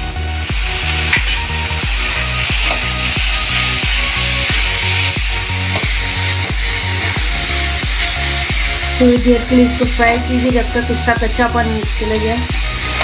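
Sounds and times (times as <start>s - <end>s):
food frying in oil: 0.0s - 13.0s
music with steady beat: 0.0s - 13.0s.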